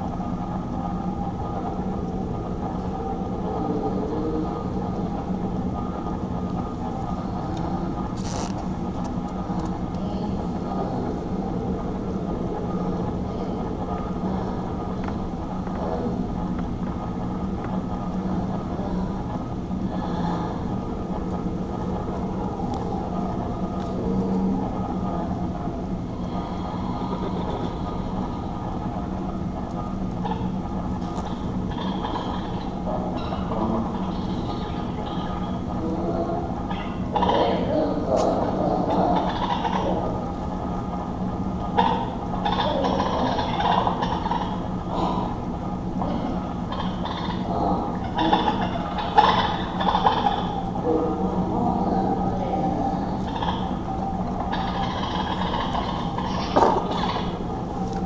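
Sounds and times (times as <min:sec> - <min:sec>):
low droning rumble: 0:00.0 - 0:58.0.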